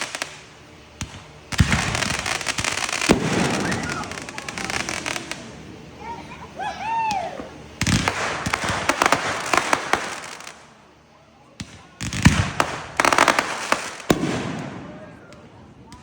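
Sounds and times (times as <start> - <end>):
firework bangs: 0.0 - 10.9, 11.5 - 16.0
fireworks crackling and popping: 0.0 - 16.0.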